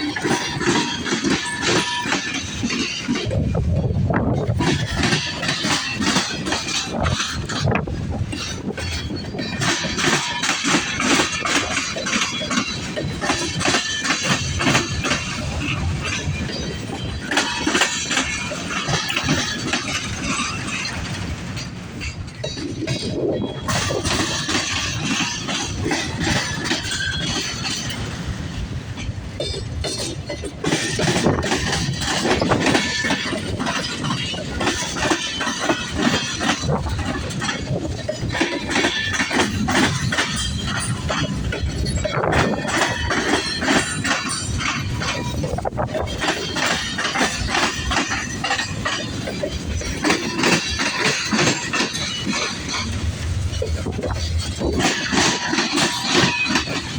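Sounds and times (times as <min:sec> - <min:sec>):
freight train wheels clacking: 0:00.0 - 0:56.9
train wheel squeals: 0:00.0 - 0:56.9.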